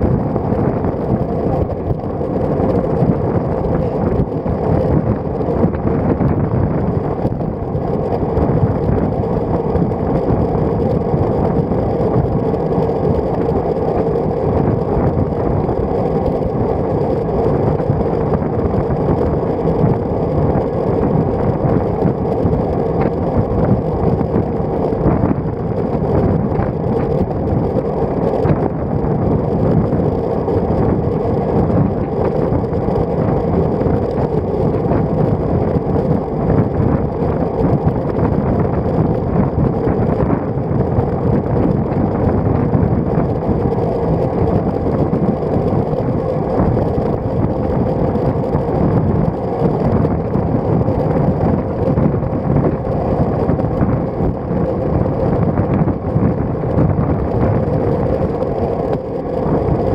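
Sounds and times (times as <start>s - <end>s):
bike tyres on road: 0.0s - 59.9s
wind rushing over microphone: 0.0s - 59.9s.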